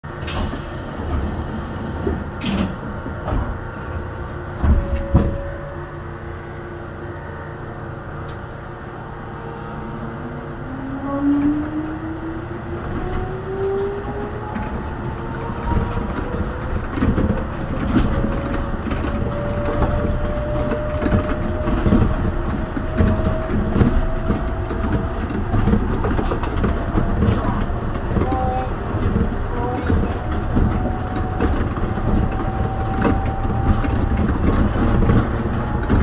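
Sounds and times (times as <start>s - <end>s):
train drive whine: 0.0s - 36.0s
train running noise: 0.0s - 36.0s.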